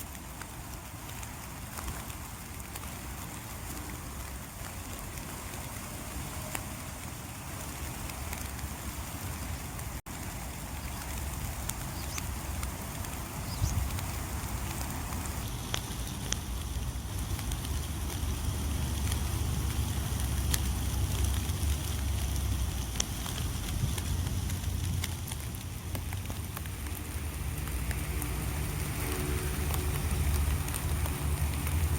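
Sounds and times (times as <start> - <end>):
light rain falling: 0.0 - 31.9
raindrops tapping close by: 0.0 - 31.9
wind rumble on microphone: 0.0 - 31.9.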